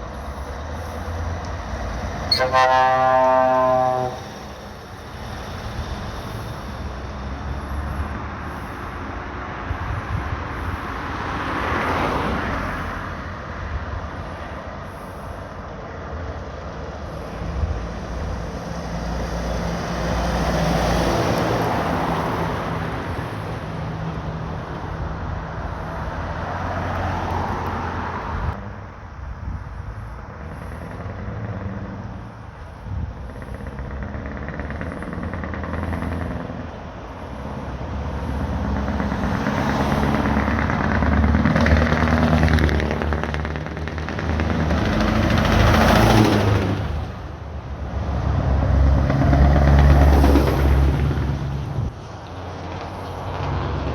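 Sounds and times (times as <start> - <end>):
heavy trucks driving past: 0.0 - 53.9.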